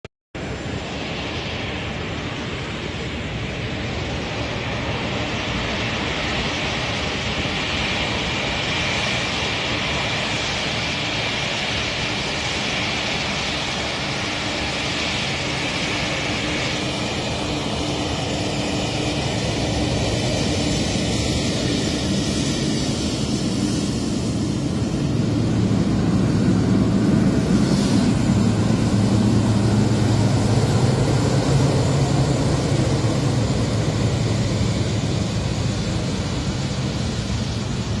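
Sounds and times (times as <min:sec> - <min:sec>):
high-pitched engine whine: 0:00.4 - 0:38.0
jet engine roar: 0:00.4 - 0:38.0.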